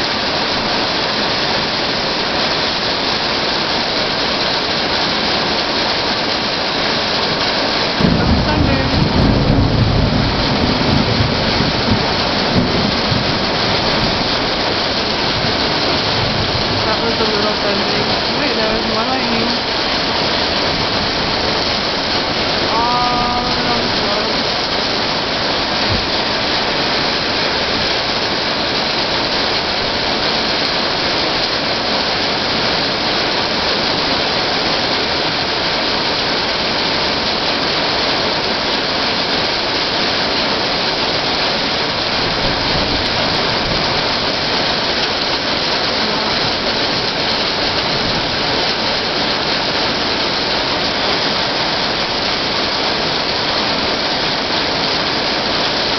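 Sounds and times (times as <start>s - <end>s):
heavy rain and hail on concrete: 0.0s - 55.9s.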